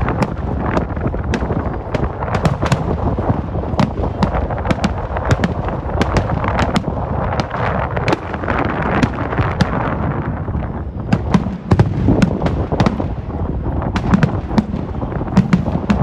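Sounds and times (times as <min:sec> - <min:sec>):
fireworks cracks: 0:00.0 - 0:16.0
low rumble of booms: 0:00.0 - 0:16.0.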